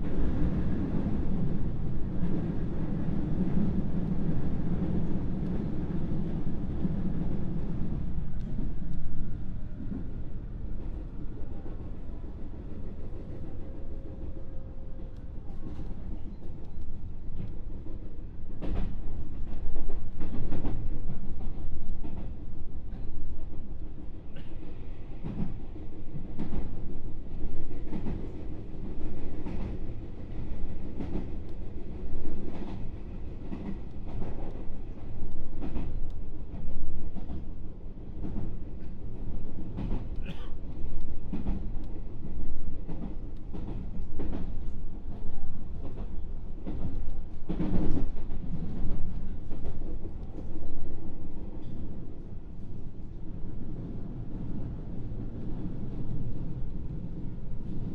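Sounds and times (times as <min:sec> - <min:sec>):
train wheels rumbling on track: 0:00.0 - 0:57.9.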